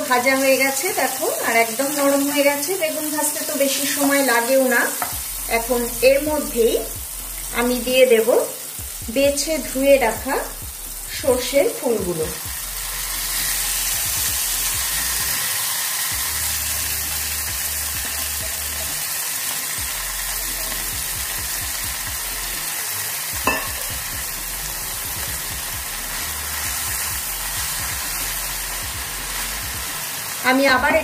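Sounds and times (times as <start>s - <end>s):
frying sizzle in oil: 0.0s - 31.0s.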